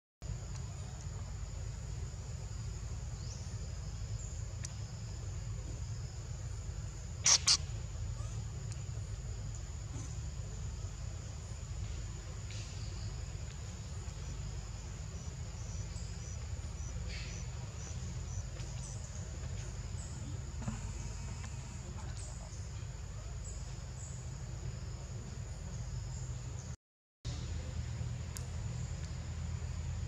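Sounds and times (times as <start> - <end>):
insects droning: 0.2 - 30.0
insect chirps: 0.3 - 30.0.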